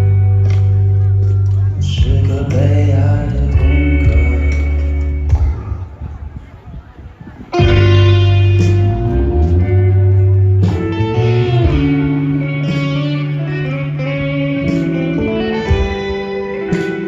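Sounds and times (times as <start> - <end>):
live band with electric guitar: 0.0 - 17.0.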